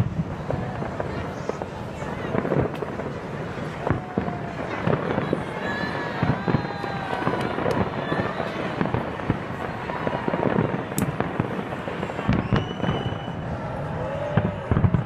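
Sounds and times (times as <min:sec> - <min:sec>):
firework high whistle: 0:00.0 - 0:15.0
fireworks bangs and crackling: 0:00.0 - 0:15.0.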